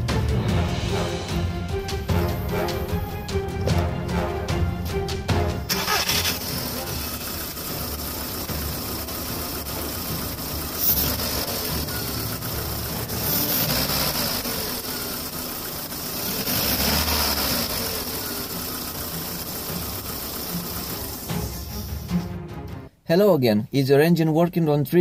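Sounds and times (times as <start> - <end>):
car engine idling and revving: 0.0 - 22.4.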